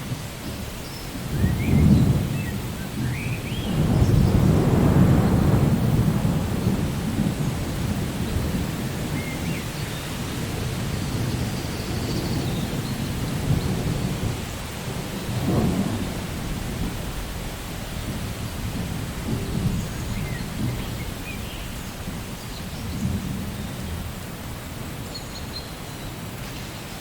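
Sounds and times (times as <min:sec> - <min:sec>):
thunder rumbling: 0:00.0 - 0:25.1
steady rain: 0:00.0 - 0:27.0.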